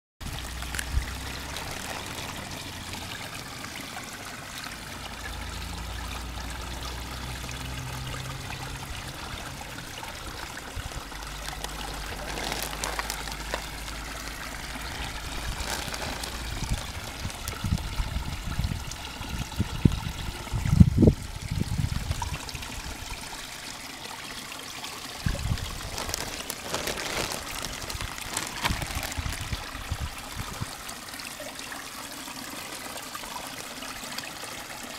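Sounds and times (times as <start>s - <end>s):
water trickling and splashing: 0.2s - 34.9s.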